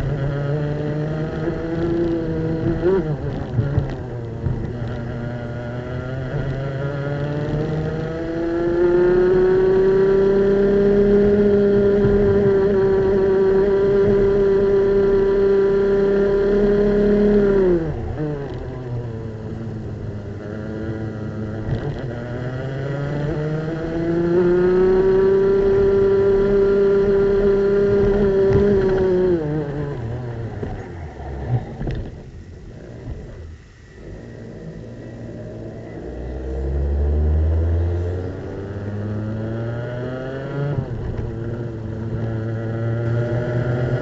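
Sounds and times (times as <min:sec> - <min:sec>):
kart engine revving: 0:00.0 - 0:44.0.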